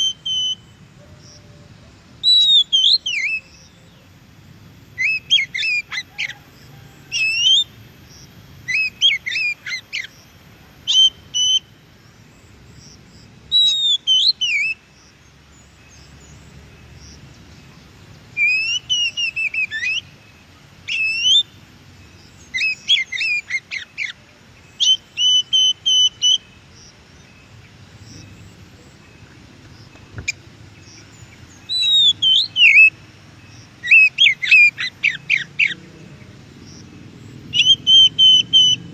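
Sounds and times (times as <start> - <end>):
bird singing whistles and trills: 0.0 - 4.1, 4.9 - 11.8, 13.5 - 14.8, 15.5 - 35.9, 36.6 - 38.9.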